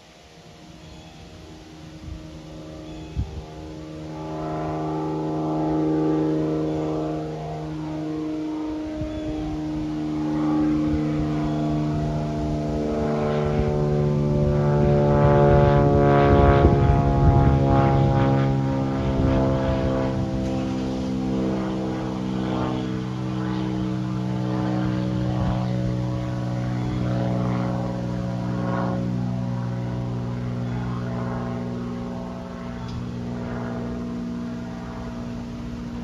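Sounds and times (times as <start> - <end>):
propeller aircraft flying overhead: 0.0 - 36.0.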